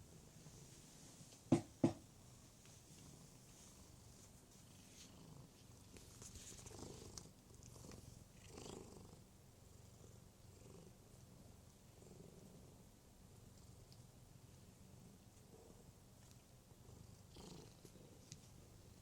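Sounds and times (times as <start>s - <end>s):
cat purring: 2.3s - 19.0s.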